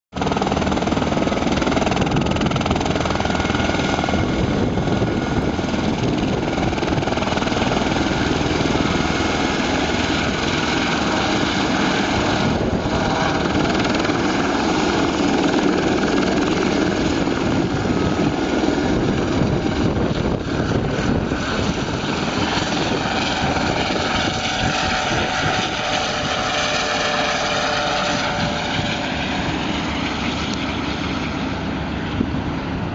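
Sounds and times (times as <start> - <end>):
helicopter taking off: 0.1 - 32.9.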